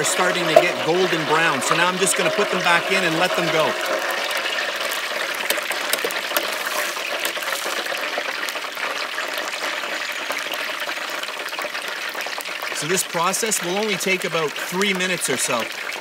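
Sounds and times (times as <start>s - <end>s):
deep fryer oil sizzling: 0.0s - 16.0s.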